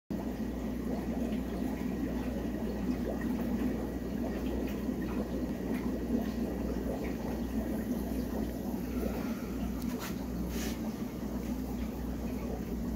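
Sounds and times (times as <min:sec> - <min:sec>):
aquarium water bubbling: 0:00.1 - 0:12.9
low hum: 0:00.3 - 0:12.9.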